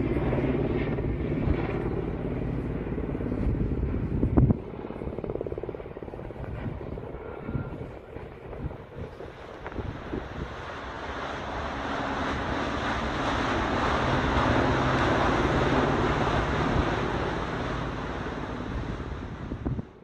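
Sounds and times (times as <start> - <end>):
low hum: 0.0 - 20.0
rushing wind-like noise: 0.0 - 20.0.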